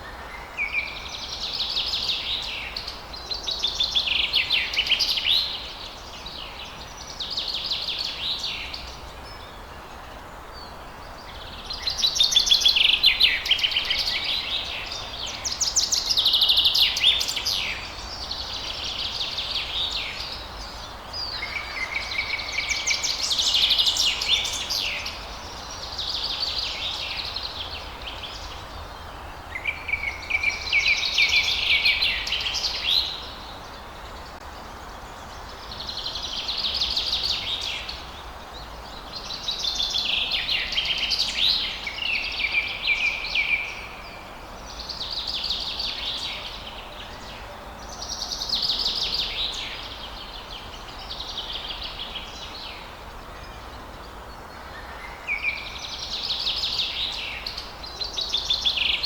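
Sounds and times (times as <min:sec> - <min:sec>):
faint background hiss: 0:00.0 - 0:59.0.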